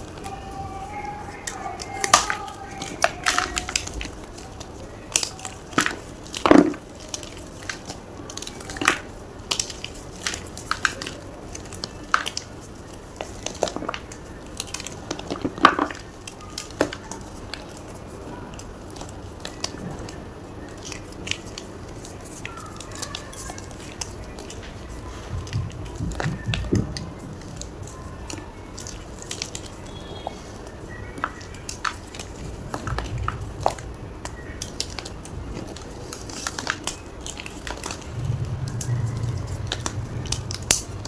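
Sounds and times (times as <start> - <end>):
chalk crunching and crumbling: 0.0 - 41.0.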